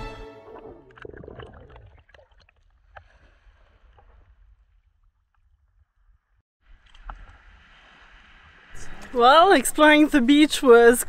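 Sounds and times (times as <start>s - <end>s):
water sloshing and gurgling: 0.0s - 9.3s.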